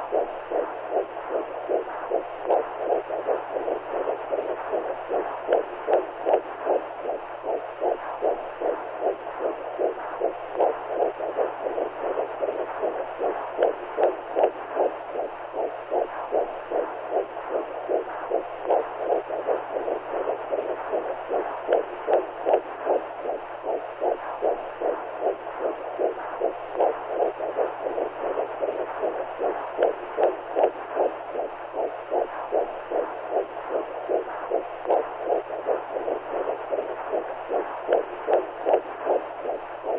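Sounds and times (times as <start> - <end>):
low steady hum: 0.0 - 39.9
muffled whooshing heartbeat: 0.0 - 39.9.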